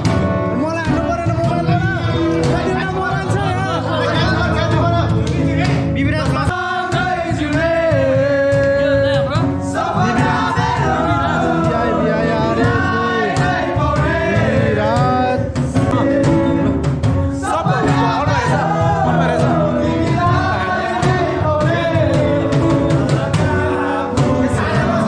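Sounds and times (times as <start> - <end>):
strummed guitar: 0.0 - 25.0
man singing: 0.5 - 25.0.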